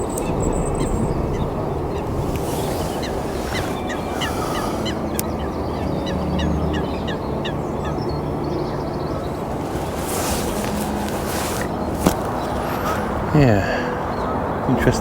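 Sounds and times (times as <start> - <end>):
bird calling in falling notes: 0.0 - 15.0
low background rumble: 0.0 - 15.0.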